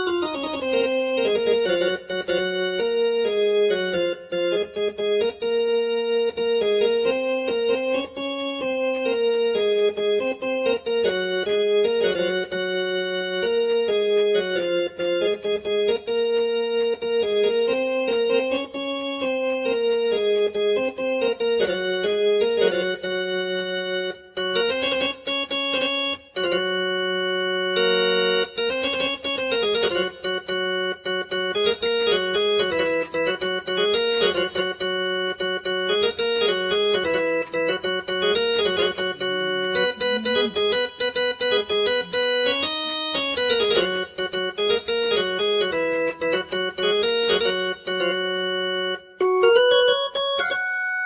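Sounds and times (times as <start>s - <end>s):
electronic keyboard melody: 0.0s - 51.0s.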